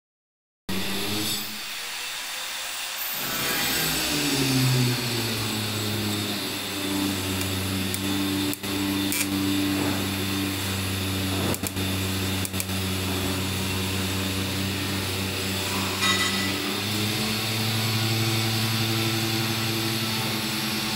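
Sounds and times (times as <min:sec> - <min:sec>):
machine hum: 0:00.7 - 0:20.9.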